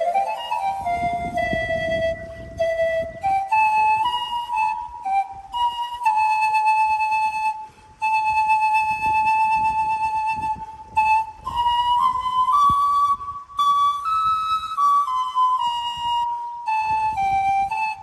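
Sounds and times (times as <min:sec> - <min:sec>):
pan flute melody: 0:00.0 - 0:18.0.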